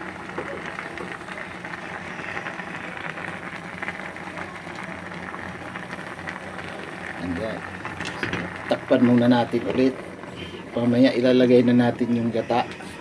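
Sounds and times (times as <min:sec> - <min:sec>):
pot simmering and bubbling: 0:00.0 - 0:13.0.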